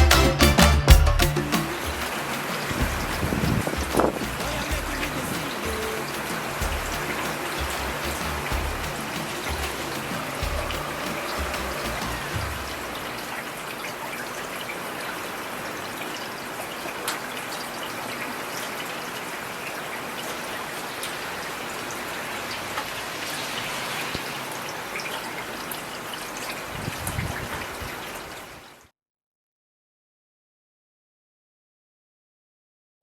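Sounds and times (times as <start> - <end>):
heavy rain: 0.0 - 28.8.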